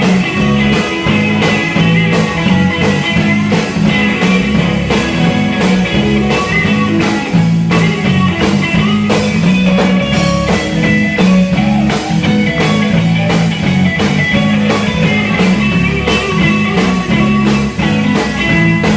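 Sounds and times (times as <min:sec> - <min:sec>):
electric guitar: 0:00.0 - 0:18.9
gospel band instrumental groove: 0:00.0 - 0:18.9.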